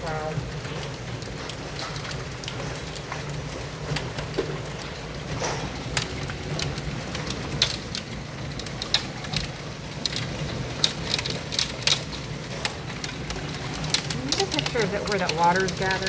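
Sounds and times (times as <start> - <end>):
hailstones ticking on hard surfaces: 0.0 - 16.0.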